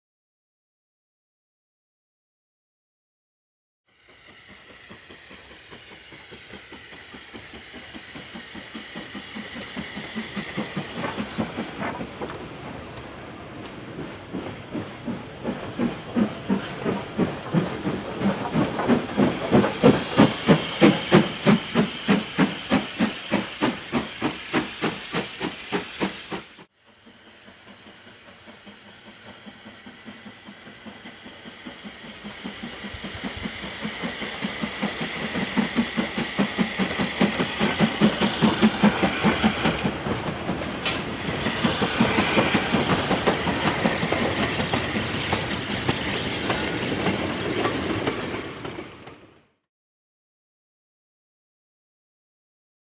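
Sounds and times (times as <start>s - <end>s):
steam hiss: 3.9s - 48.9s
steam locomotive chuffing: 3.9s - 49.6s.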